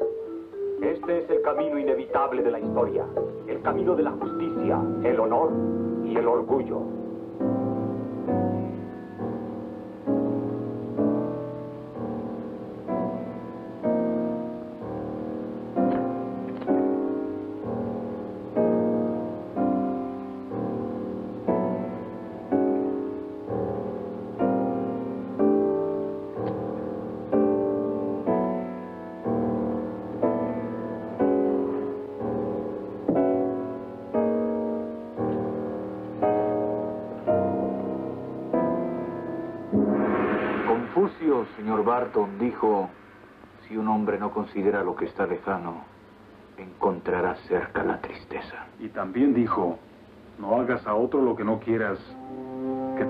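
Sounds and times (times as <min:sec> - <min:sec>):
slow piano notes: 0:00.0 - 0:43.8, 0:51.7 - 0:53.0.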